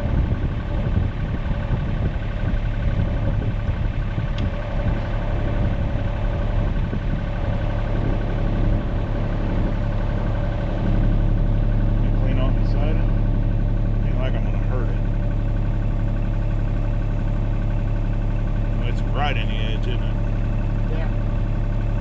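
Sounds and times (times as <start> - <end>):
excavator engine idling: 0.0 - 22.0.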